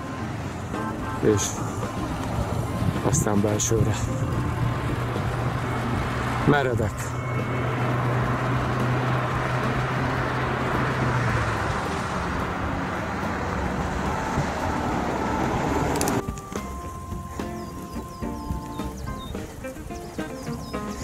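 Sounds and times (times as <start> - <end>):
music: 0.0 - 21.0
road and wind noise: 0.0 - 21.0
vehicle engine hum: 0.0 - 21.0.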